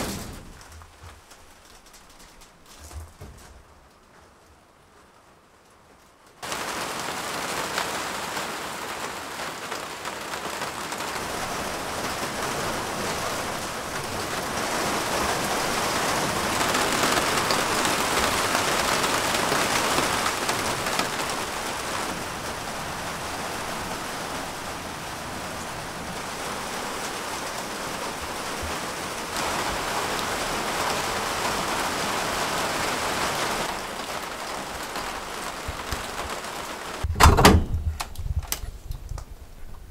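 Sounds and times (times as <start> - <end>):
rain on greenhouse panels: 0.0 - 39.9.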